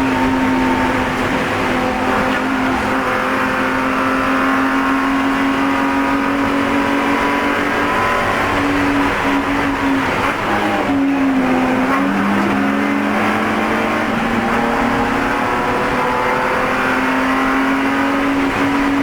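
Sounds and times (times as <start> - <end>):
race car engine at speed: 0.0 - 19.0.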